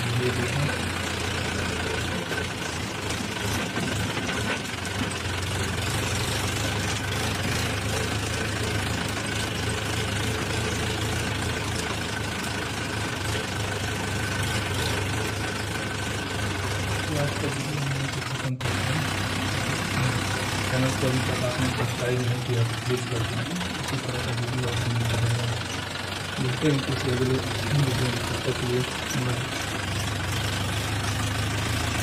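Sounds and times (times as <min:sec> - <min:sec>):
diesel tractor engine running: 0:00.0 - 0:32.0.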